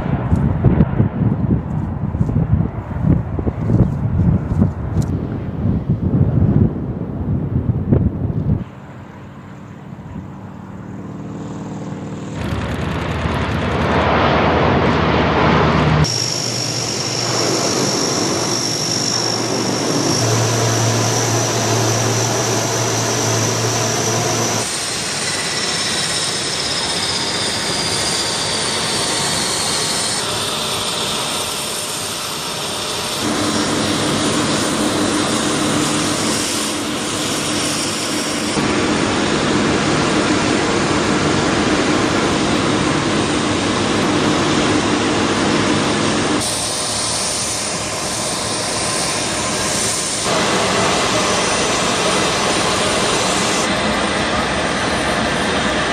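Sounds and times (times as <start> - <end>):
turboprop aircraft engines running: 0.0 - 55.9.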